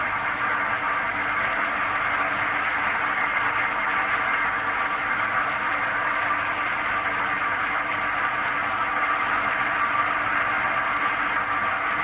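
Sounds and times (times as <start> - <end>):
constant machine hum: 0.0 - 12.0.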